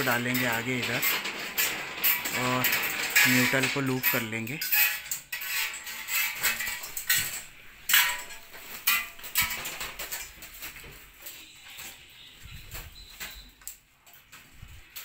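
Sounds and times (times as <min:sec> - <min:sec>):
electrical wires clicking and clattering: 0:00.0 - 0:15.0.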